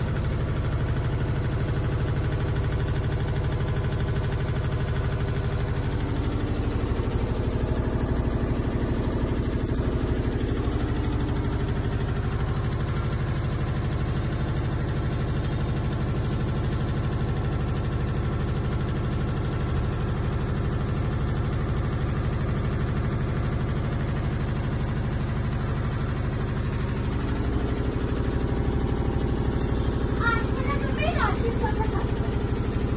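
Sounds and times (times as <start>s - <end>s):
washing machine running: 0.0s - 32.9s.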